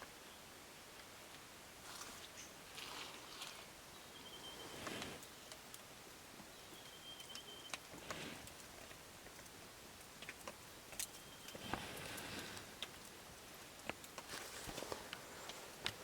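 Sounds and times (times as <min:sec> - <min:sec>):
campfire crackling and popping: 0:00.9 - 0:16.0.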